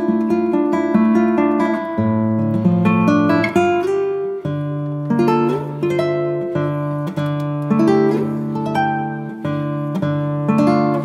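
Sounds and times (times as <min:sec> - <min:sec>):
guitar playing chords: 0:00.0 - 0:11.0.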